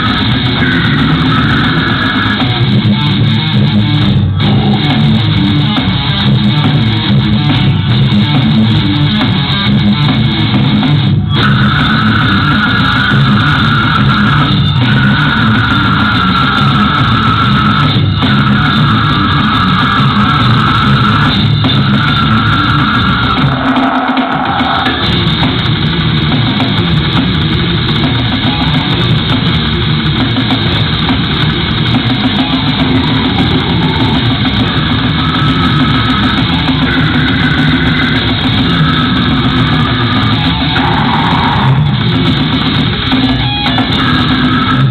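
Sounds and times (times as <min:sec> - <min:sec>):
distorted electric guitars: 0:00.0 - 0:44.9
drum kit: 0:00.0 - 0:44.9
metal band playing: 0:00.0 - 0:44.9.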